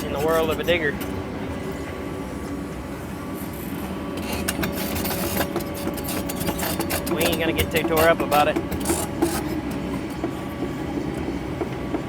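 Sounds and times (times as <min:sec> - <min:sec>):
excavator engine humming: 0:00.0 - 0:12.0.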